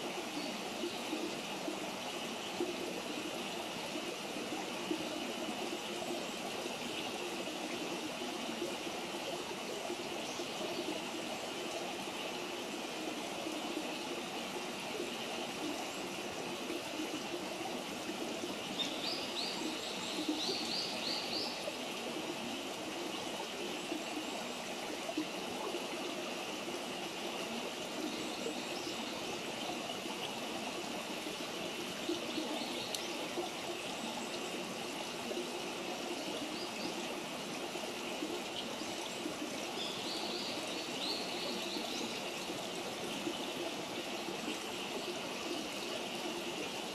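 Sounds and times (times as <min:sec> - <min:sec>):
stream trickling: 0:00.0 - 0:46.9.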